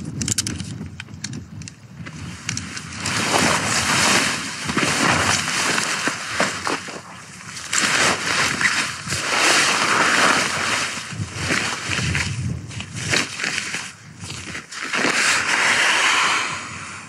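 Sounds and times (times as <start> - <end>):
tent fabric rustling: 2.1 - 16.6.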